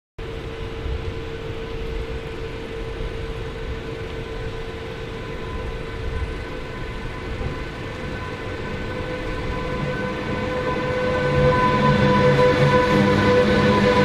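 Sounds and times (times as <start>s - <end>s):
electric train whine: 0.2s - 14.0s
train low rumble: 0.2s - 14.0s.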